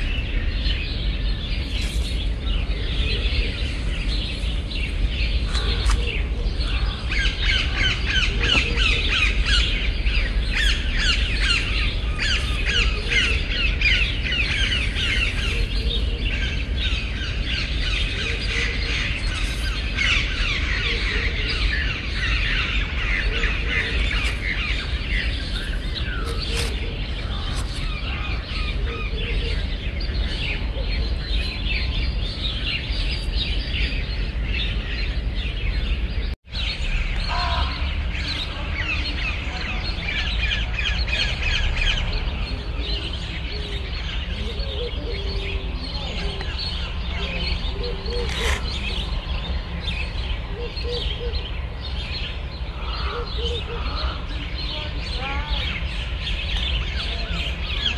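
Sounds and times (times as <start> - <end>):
small birds chirping: 0.0 - 57.9
steady low rumble: 0.0 - 57.9.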